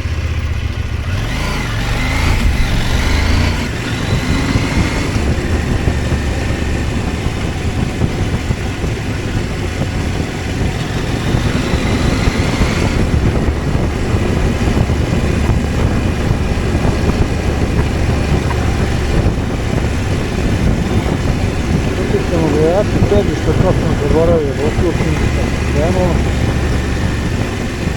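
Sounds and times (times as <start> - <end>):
motorcycle engine running: 0.0 - 27.9
wind noise on microphone: 0.0 - 27.9.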